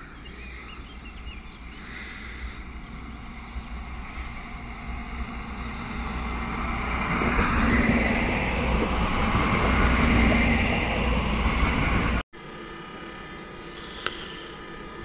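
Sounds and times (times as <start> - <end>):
train rumbling: 0.0 - 12.2.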